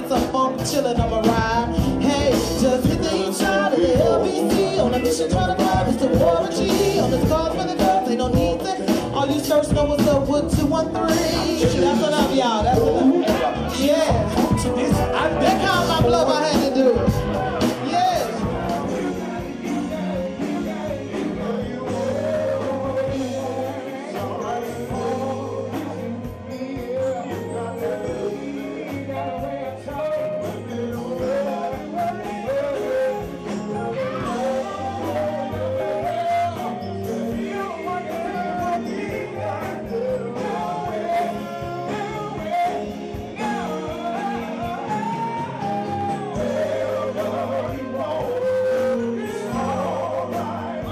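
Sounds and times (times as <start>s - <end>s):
drums: 0.0s - 50.9s
keyboard: 0.0s - 50.9s
man singing into microphone: 0.0s - 50.9s.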